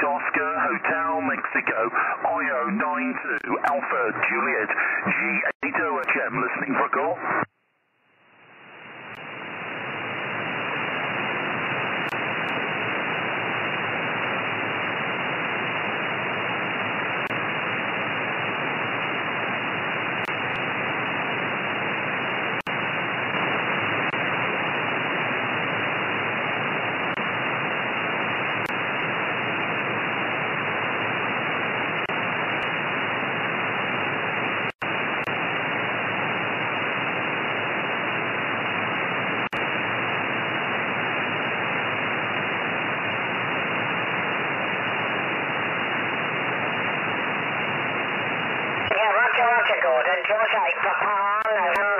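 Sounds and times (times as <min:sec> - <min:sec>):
radio receiver hiss: 0:00.0 - 0:51.9.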